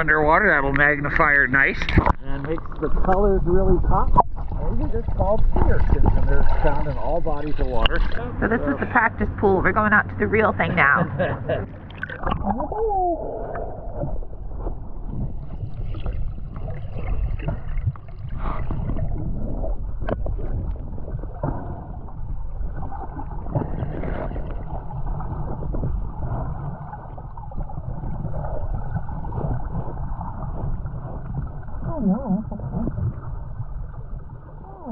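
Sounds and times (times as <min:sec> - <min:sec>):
muffled water sloshing and gurgling: 0:00.0 - 0:34.9.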